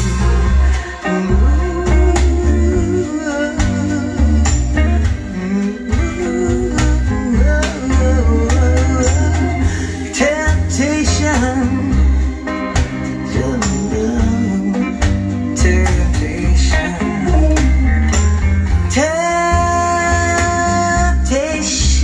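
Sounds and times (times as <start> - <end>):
song playing over speakers: 0.0 - 22.0.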